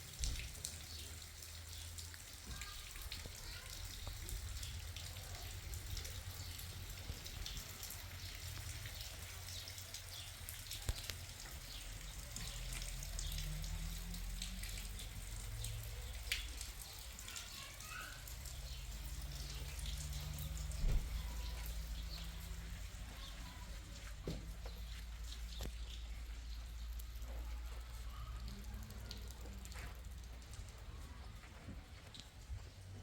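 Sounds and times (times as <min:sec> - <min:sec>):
water dripping: 0:00.0 - 0:33.0.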